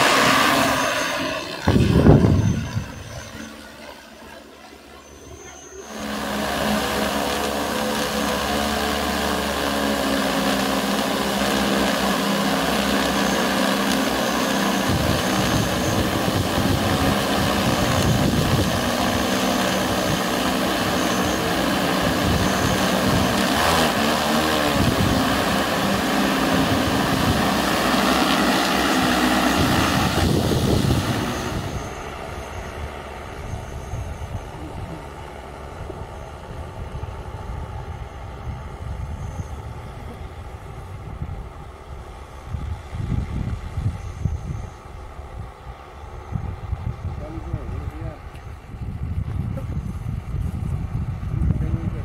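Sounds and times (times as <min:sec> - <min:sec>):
drone rotors humming: 0:00.0 - 0:52.0.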